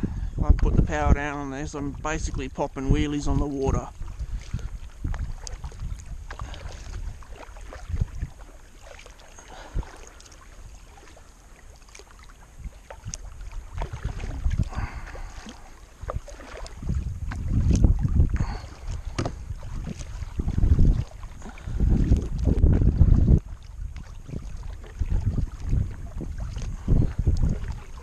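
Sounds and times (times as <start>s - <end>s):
wind rumbling on microphone: 0.0s - 28.0s
paddle splashing in water: 1.8s - 28.0s.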